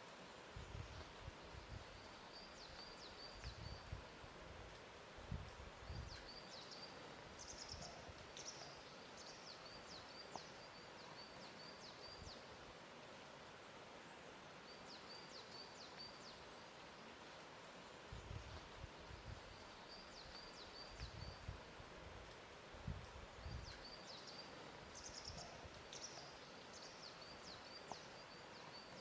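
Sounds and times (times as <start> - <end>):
quiet steady hiss: 0.0 - 29.0.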